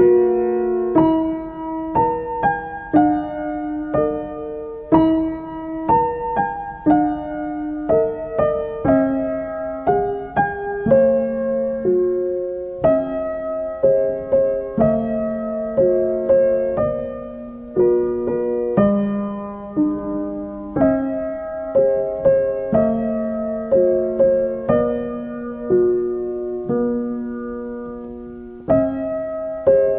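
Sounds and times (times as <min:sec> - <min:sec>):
slow gentle piano piece: 0:00.0 - 0:29.9.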